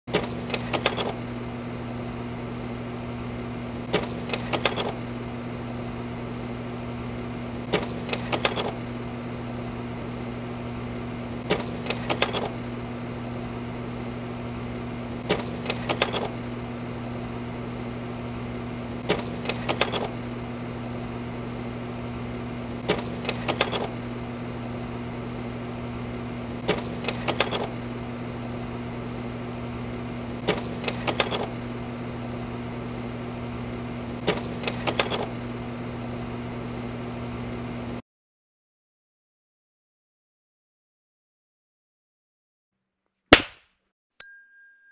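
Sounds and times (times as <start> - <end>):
slide projector humming: 0.1 - 37.1.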